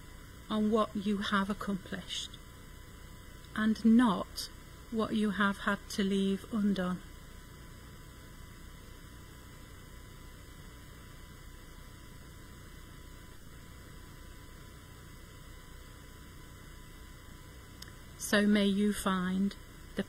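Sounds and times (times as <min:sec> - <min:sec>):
electrical mains hum: 0:00.0 - 0:20.0
faint microphone hiss: 0:00.0 - 0:20.0.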